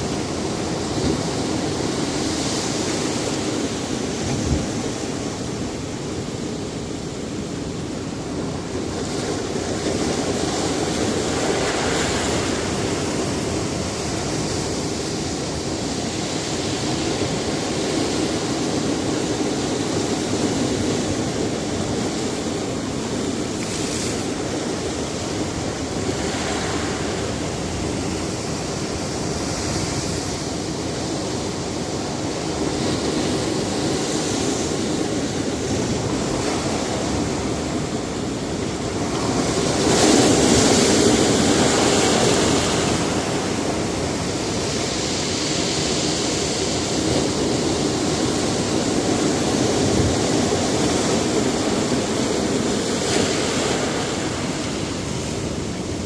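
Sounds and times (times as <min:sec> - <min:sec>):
waves breaking on rocks: 0:00.0 - 0:56.0.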